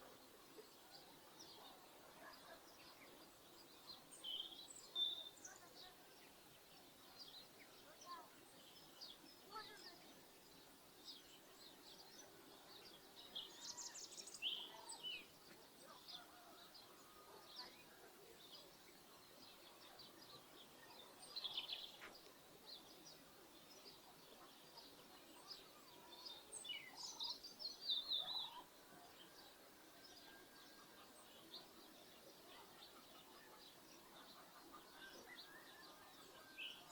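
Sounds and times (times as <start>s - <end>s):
faint steady background noise: 0.0s - 36.9s
small birds chirping: 0.0s - 36.9s.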